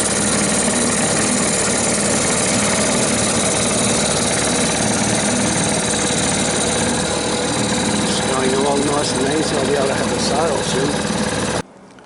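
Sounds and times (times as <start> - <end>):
outboard motor running: 0.0 - 11.6.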